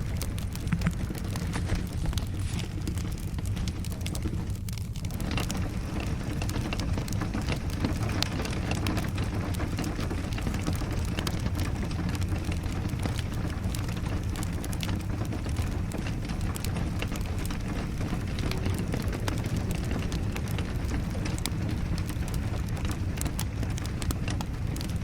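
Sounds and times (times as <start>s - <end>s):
rain falling: 0.0s - 25.0s
wood fire crackling: 0.0s - 25.0s.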